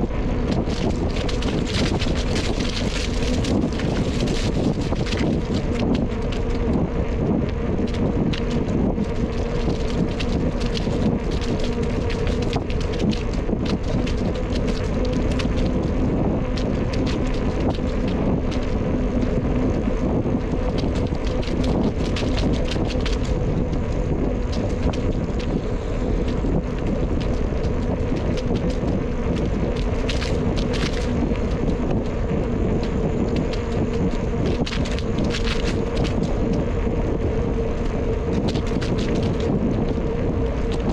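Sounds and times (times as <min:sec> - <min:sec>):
rolling rumble of bicycle: 0:00.0 - 0:40.9
steady low hum: 0:00.0 - 0:40.9
wind rushing over microphone: 0:00.0 - 0:40.9.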